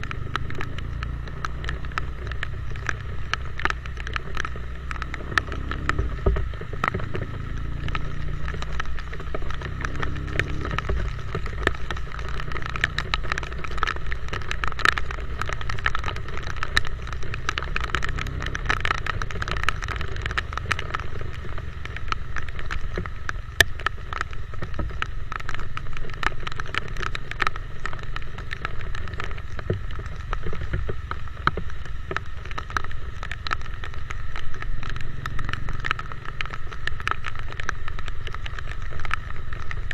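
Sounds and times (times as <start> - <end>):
motorcycle engine hum: 0.0 - 39.9
rain ticks on microphone: 0.0 - 39.9
road noise: 0.0 - 39.9.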